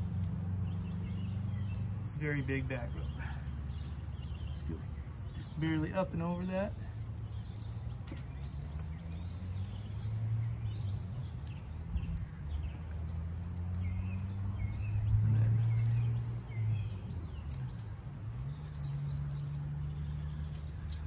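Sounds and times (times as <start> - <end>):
low motor hum: 0.0 - 21.0
small birds chirping: 0.0 - 21.0.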